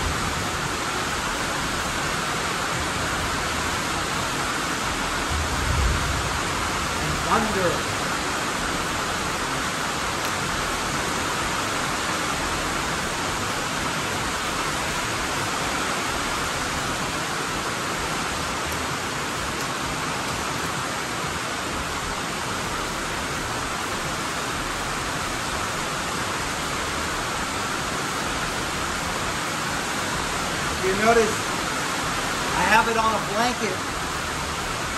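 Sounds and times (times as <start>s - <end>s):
steady rain hissing: 0.0s - 34.9s.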